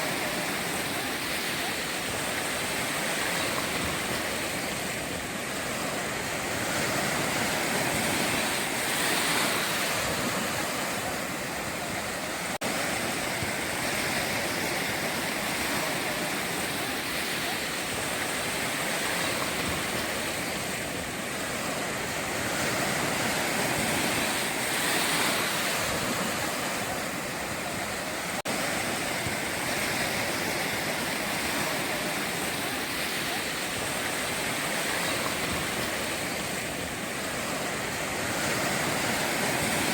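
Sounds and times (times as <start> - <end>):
sea surf breaking on shore: 0.0 - 39.9.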